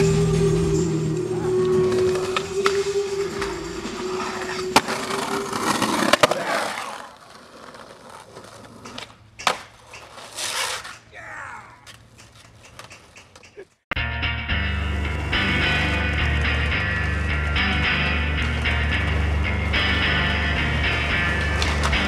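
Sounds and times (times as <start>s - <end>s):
skateboard wheels rolling on pavement: 0.0s - 13.7s, 14.6s - 22.0s
skateboard clacking on ground: 1.9s - 13.9s, 15.9s - 22.0s.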